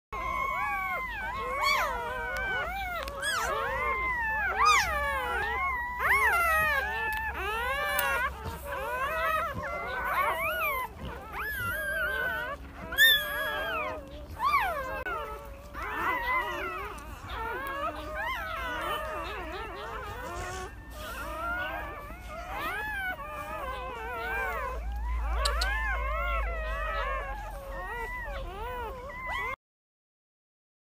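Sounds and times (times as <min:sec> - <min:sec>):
newborn puppies whining: 0:00.2 - 0:29.6.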